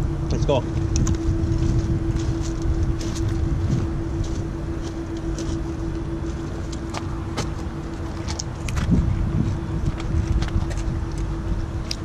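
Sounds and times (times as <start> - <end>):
charging equipment humming: 0.0 - 12.0
low rumble: 0.0 - 12.0.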